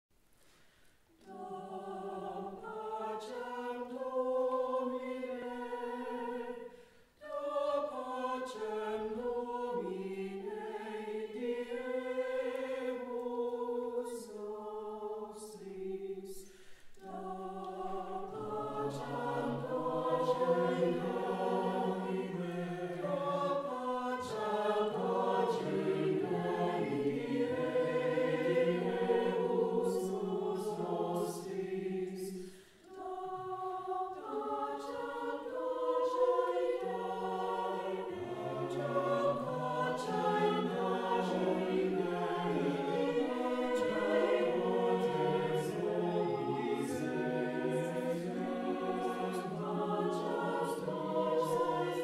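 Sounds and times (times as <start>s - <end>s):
mixed choir singing: 1.1s - 52.0s.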